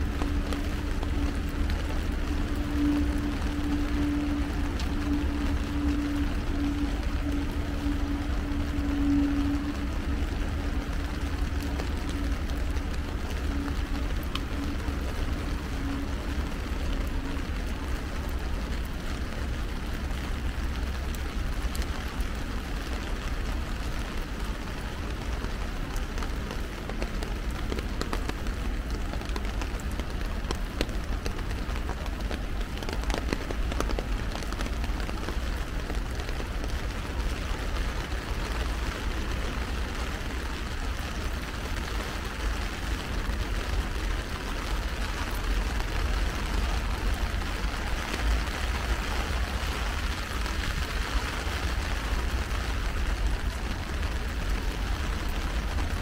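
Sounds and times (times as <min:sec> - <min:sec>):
rain pattering on an umbrella: 0:00.0 - 0:56.0.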